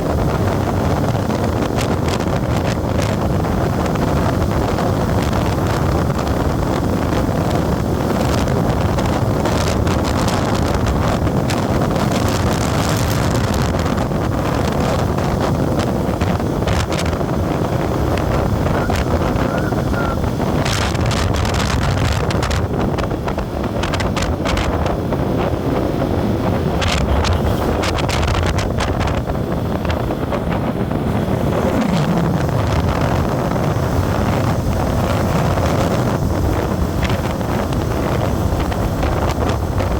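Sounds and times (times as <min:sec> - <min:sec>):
vehicle road noise: 0:00.0 - 0:39.9
wind buffeting microphone: 0:00.0 - 0:39.9.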